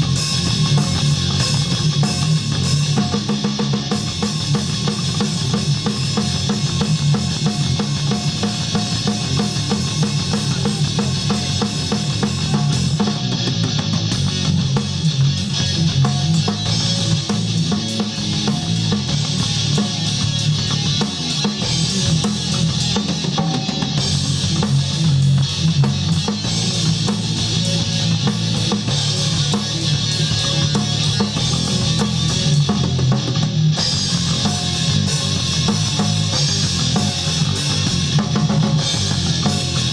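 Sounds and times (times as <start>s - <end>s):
band music: 0.0s - 39.9s
bass drum beat: 0.0s - 39.9s.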